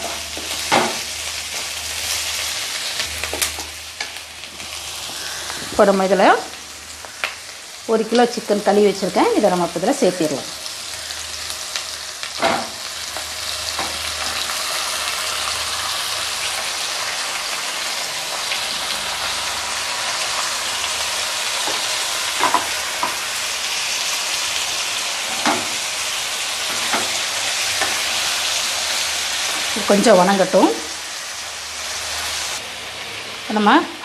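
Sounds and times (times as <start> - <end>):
chicken frying in hot oil: 0.0 - 34.0.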